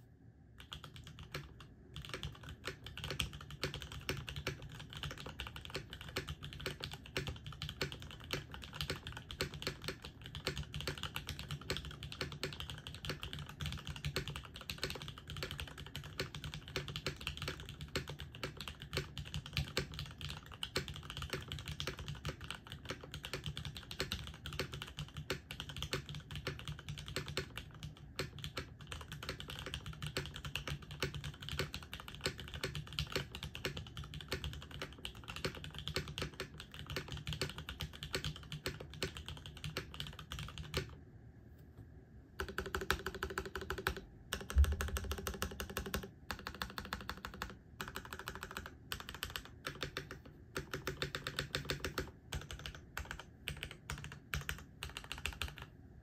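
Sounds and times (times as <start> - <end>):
mechanical keyboard typing: 0.6 - 41.0, 42.4 - 55.7.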